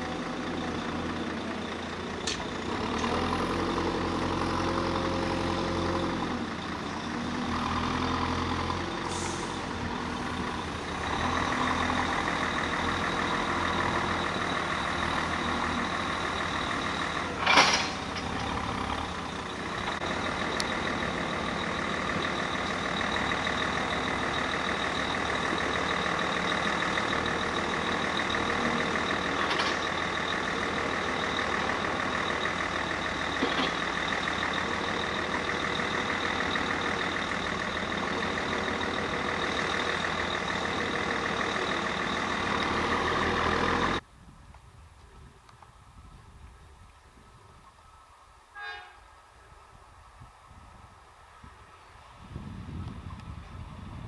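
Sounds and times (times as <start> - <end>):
diesel truck engine running: 0.0 - 44.1, 49.5 - 54.0.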